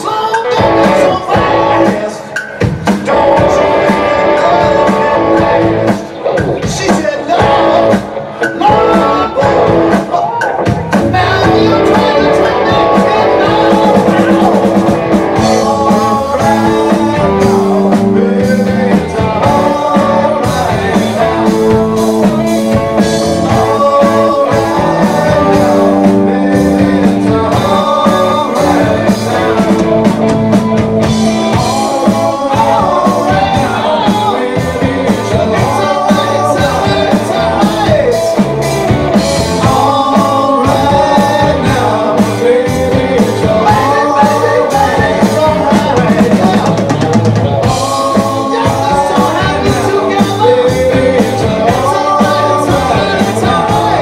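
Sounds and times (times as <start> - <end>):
drum kit beat: 0.0 - 54.0
electric bass: 0.0 - 54.0
electric guitars: 0.0 - 54.0
person singing: 0.0 - 54.0.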